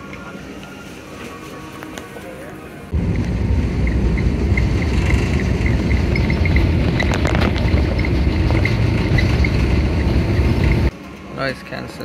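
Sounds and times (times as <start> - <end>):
airplane cabin engine rumble: 0.0 - 11.3.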